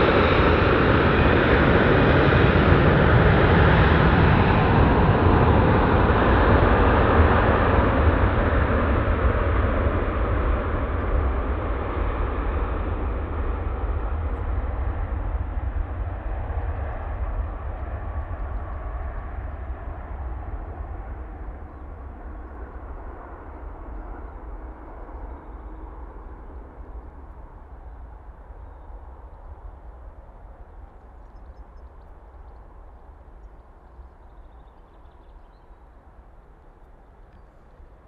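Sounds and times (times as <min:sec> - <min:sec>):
jet airliner engine: 0:00.0 - 0:38.0.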